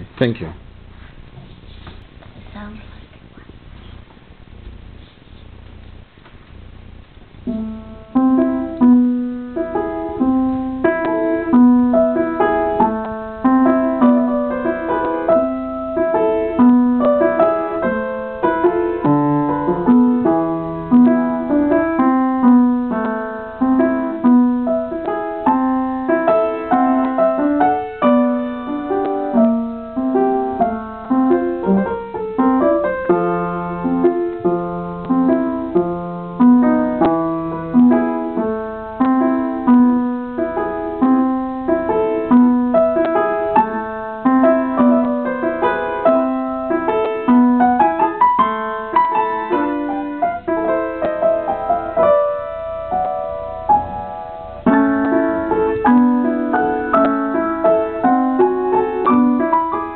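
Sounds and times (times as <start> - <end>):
upright piano playing: 5.8 - 59.9.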